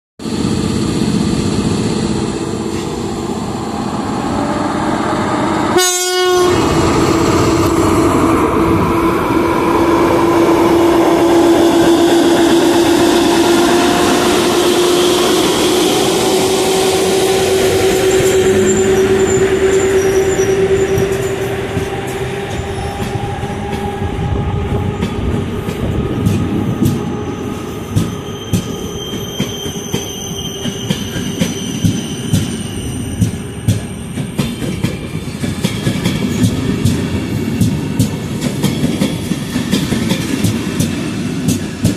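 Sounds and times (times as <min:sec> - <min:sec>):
electric locomotive whine: 0:00.2 - 0:41.9
train wheels rumbling: 0:00.3 - 0:41.9.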